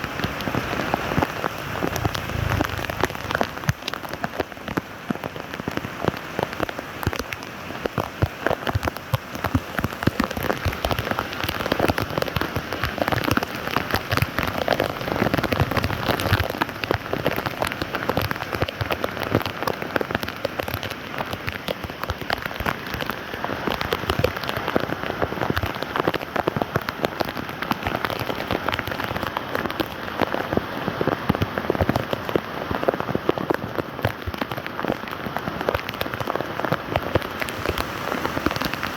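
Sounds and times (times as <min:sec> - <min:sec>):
rain pattering on water and ground: 0:00.0 - 0:38.9.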